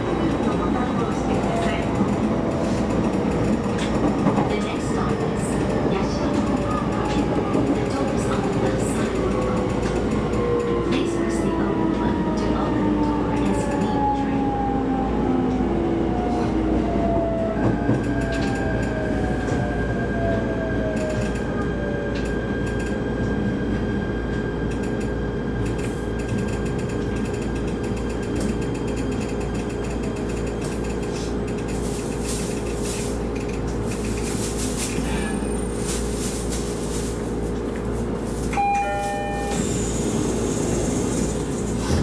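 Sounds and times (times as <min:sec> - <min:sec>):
standing train hum: 0:00.0 - 0:42.0.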